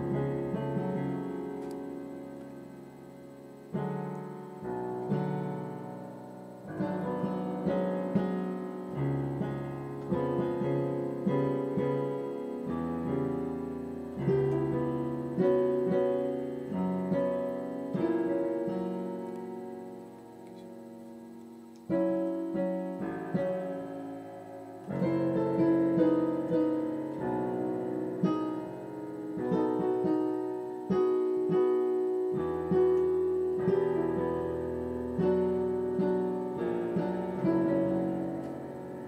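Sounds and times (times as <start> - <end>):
slow solo piano: 0.0 - 39.0.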